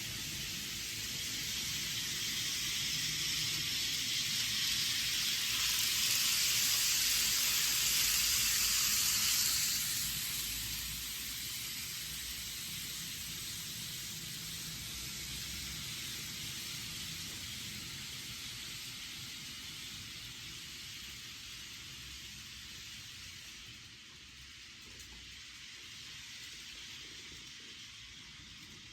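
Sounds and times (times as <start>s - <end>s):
model train running on track: 0.0s - 28.9s.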